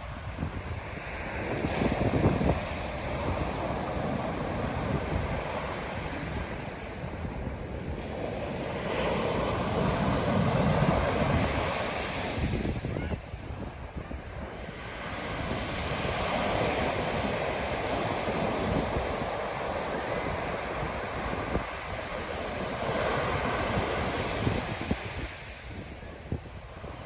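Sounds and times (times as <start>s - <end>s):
wind buffeting microphone: 0.0s - 27.0s
ocean surf breaking: 0.4s - 27.0s.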